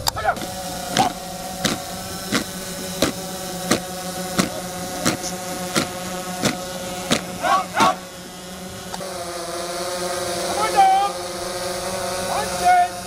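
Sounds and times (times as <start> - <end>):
electrical hum: 0.0 - 13.0
squad drilling in unison: 0.0 - 13.0.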